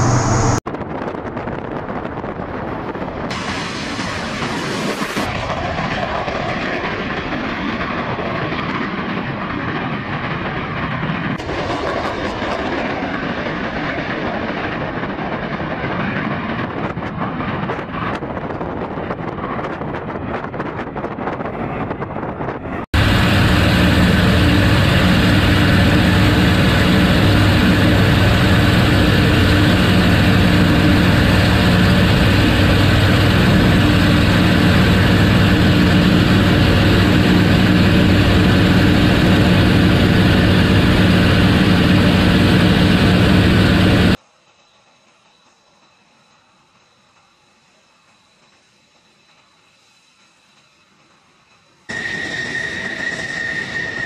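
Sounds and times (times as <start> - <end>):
wind noise: 0.0 - 44.2
aircraft engine drone: 0.0 - 54.0.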